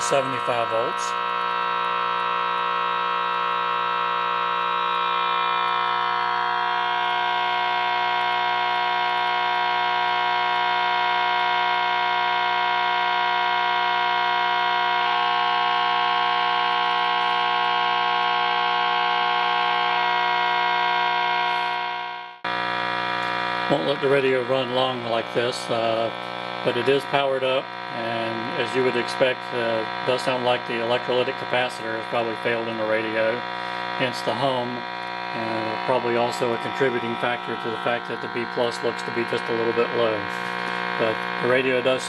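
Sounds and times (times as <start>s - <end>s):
radio hum and buzz: 0.0s - 42.0s.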